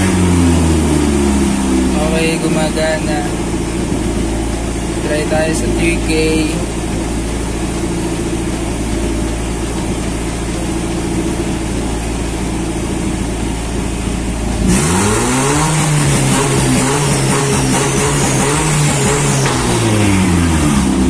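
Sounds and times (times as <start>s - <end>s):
engine on rev limiter stuttering: 0.0s - 21.0s.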